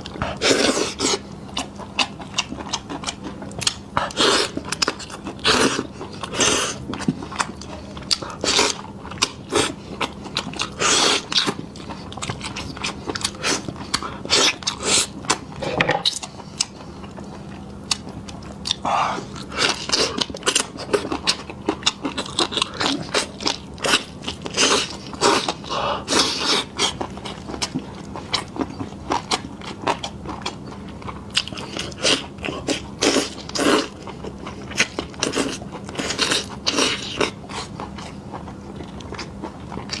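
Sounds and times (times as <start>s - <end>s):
faint steady hum: 0.0s - 40.0s
person chewing and biting: 0.0s - 40.0s.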